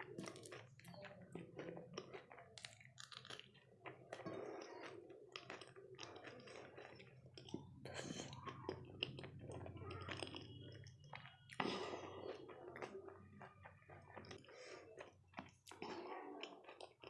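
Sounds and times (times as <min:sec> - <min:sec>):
close chewing with crackles: 0:00.0 - 0:17.0.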